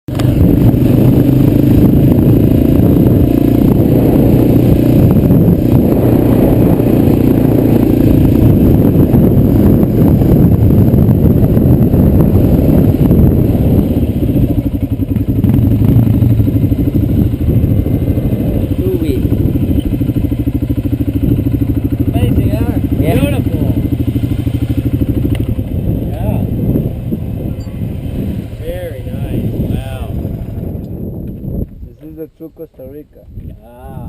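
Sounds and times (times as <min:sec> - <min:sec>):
atv engine running: 0:00.1 - 0:32.2.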